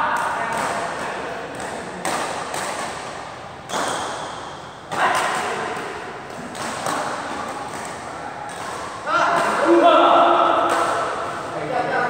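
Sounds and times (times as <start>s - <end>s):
racket hitting shuttlecock: 0.0s - 11.5s.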